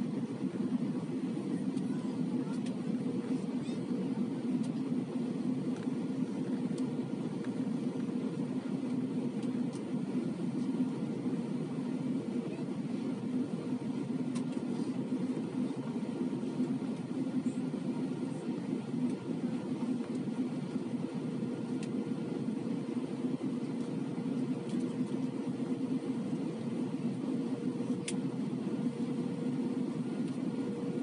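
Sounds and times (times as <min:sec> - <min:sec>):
airliner cabin engine rush: 0:00.0 - 0:31.0
faint steady hum: 0:00.0 - 0:31.0.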